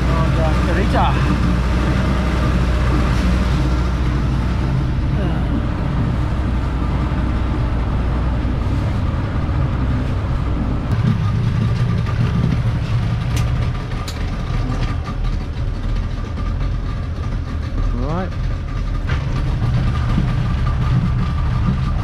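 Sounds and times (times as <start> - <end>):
motorboat engine running: 0.0 - 22.0.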